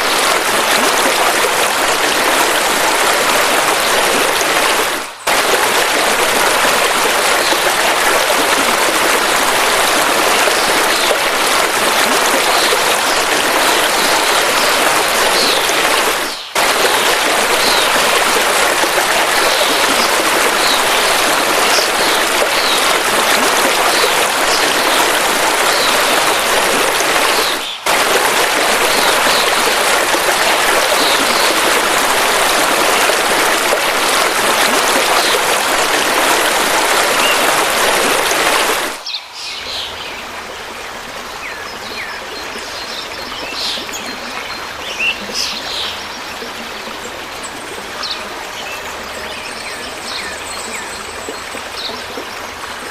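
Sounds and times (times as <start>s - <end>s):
rushing river water: 0.0s - 52.9s.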